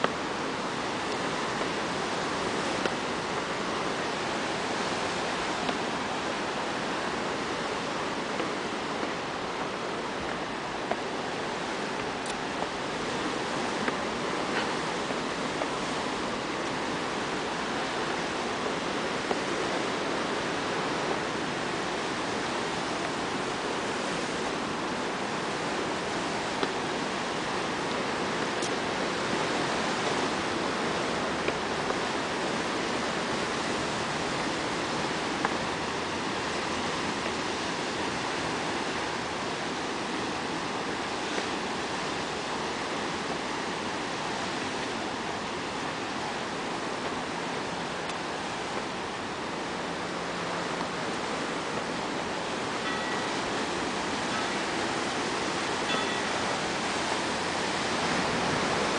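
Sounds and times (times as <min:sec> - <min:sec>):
sea surf breaking on rocks: 0:00.0 - 0:58.9.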